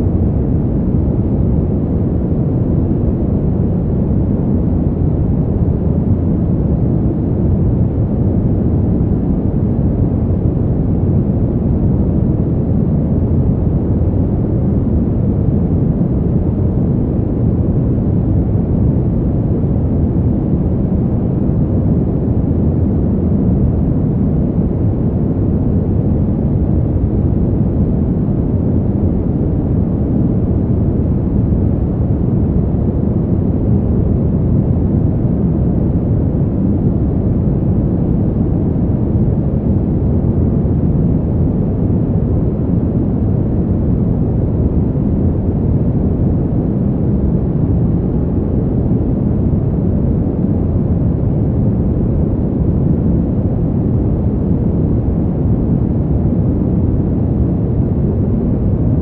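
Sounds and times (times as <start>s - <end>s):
deep wind rush: 0.0s - 59.0s.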